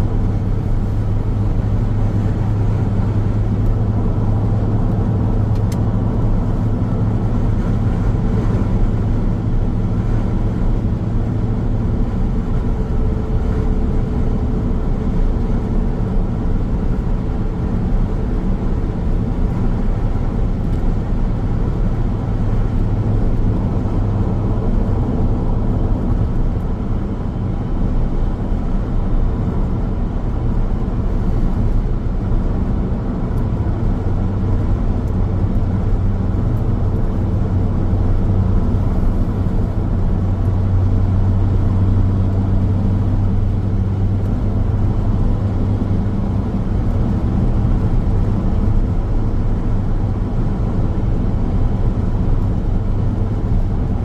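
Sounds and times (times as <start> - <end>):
low engine hum: 0.0 - 54.0
tyre and road noise: 0.0 - 54.0.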